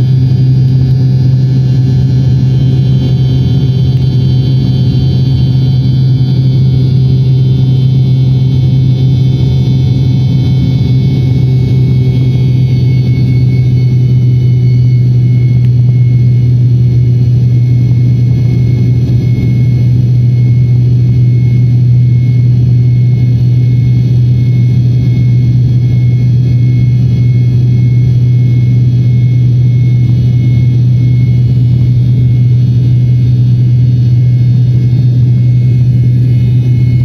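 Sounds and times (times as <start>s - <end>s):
airliner engines droning in cabin: 0.0s - 37.0s
thin high whine: 0.0s - 37.0s.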